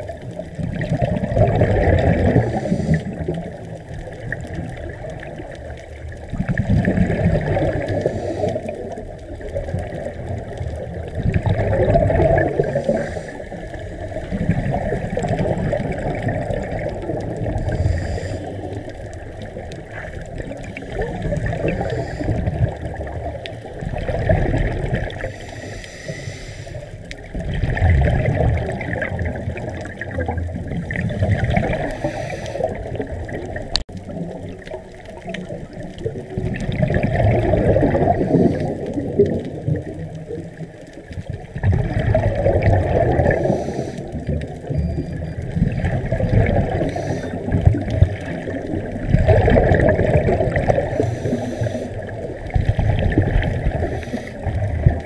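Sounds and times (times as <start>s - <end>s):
water sloshing and surging: 0.0s - 55.0s.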